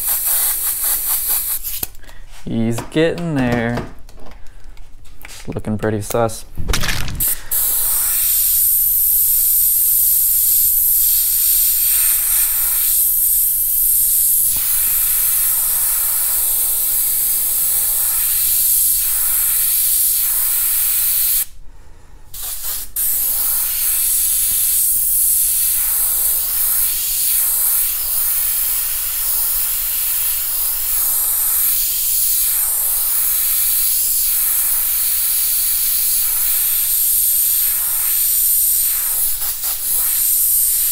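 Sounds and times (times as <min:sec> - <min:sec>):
airbrush hissing: 0:00.0 - 0:01.9, 0:07.2 - 0:21.6, 0:22.3 - 0:40.9.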